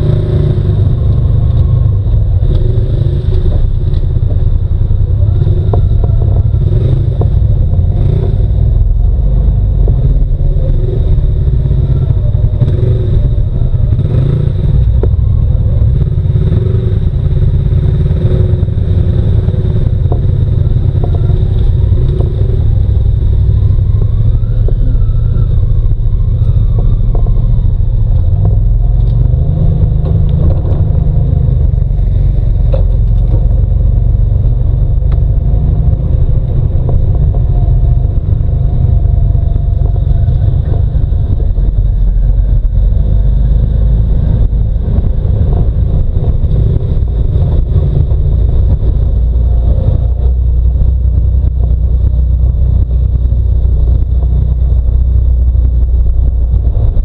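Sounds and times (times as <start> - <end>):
vehicle engine deep rumble: 0.0 - 57.0.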